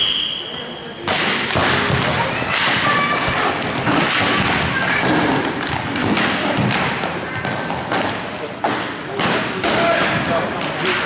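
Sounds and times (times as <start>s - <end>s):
hockey sticks and puck clacking: 1.0s - 11.0s.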